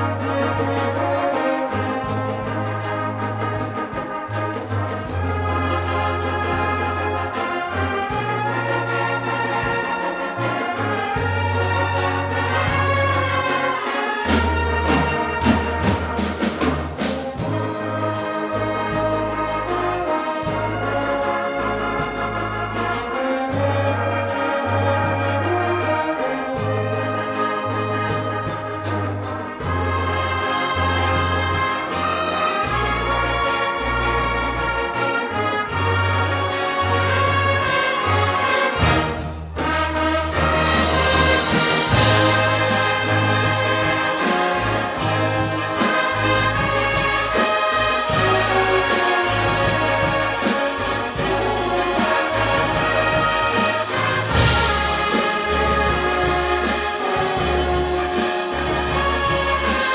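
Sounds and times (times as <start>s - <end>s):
brass band playing: 0.0s - 59.9s
drums and cymbals: 0.0s - 59.9s.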